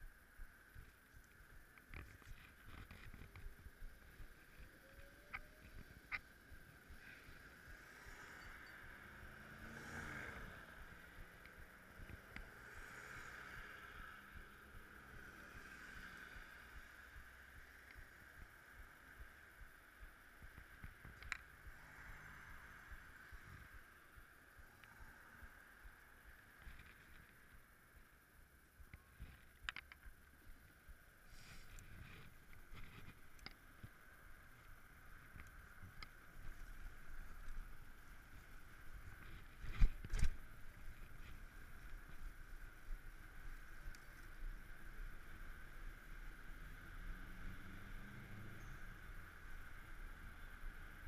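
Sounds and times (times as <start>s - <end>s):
bicycle riding noise: 0.0s - 51.0s
muffled street traffic: 0.0s - 51.0s.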